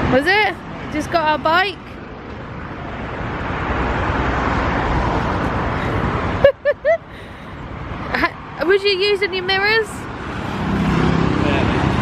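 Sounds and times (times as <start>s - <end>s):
road traffic rumbling hiss: 0.0s - 12.0s.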